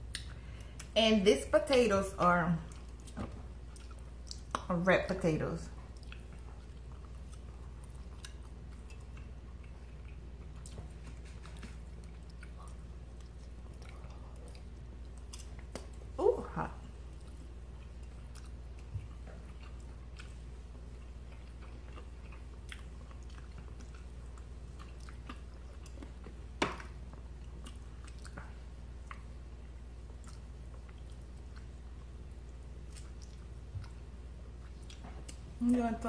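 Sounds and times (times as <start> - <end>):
people chewing food: 0.0 - 1.0, 2.6 - 4.8, 5.7 - 35.7
steady low hum: 0.0 - 36.0.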